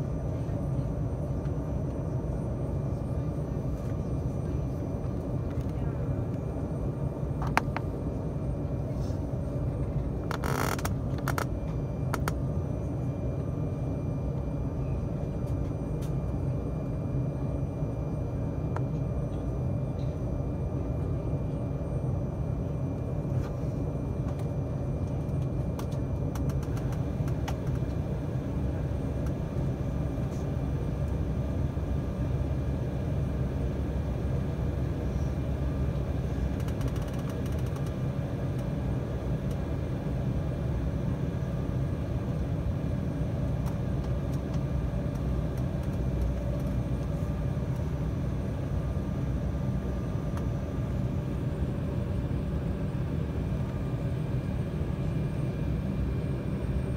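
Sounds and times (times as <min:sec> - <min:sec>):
faint steady hum: 0:00.0 - 0:56.9
jet engines rumbling: 0:00.0 - 0:56.9.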